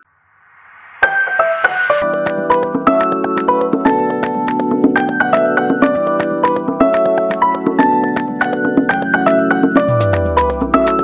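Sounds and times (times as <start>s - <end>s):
keyboard melody with beat: 1.0s - 11.0s.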